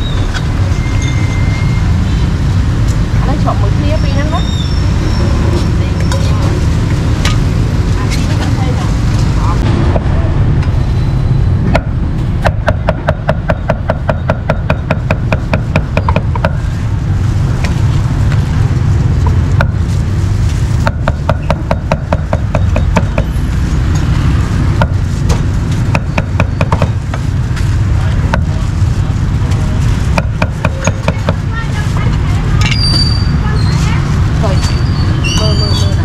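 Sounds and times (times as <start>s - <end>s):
low rumble of vehicles: 0.0s - 36.0s.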